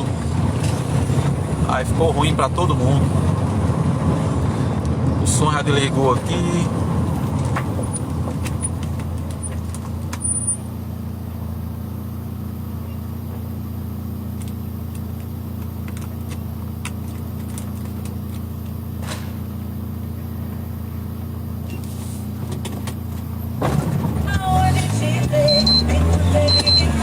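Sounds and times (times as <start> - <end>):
car engine and road drone: 0.0 - 27.0.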